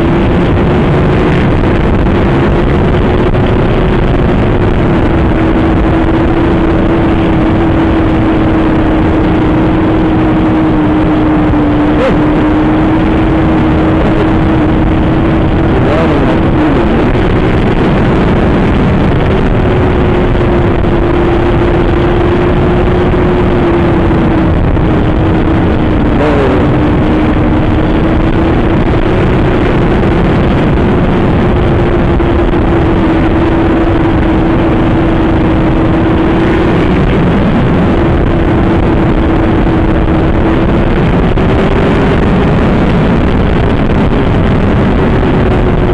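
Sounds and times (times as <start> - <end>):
motorcycle engine running hard: 0.0 - 45.9
wind roar: 0.0 - 45.9.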